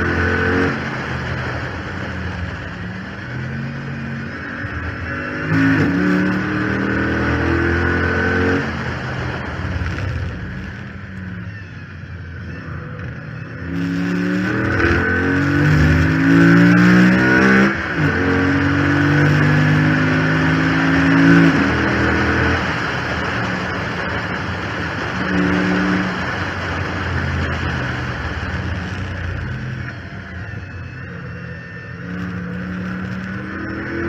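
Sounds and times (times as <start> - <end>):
car engine accelerating: 0.0 - 34.0
high whine: 0.0 - 34.0.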